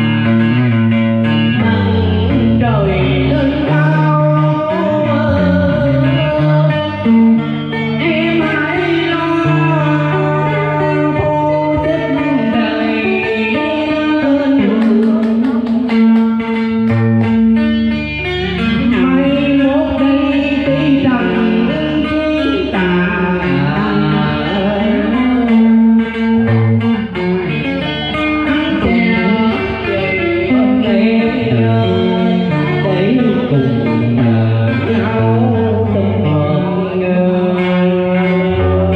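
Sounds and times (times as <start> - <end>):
plucked guitar with bending notes: 0.0 - 38.9.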